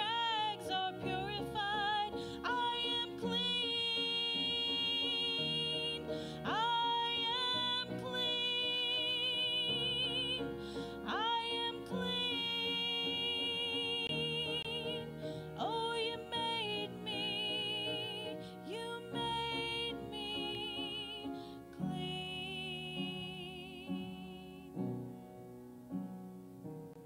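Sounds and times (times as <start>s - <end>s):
woman singing into a microphone: 0.0s - 24.9s.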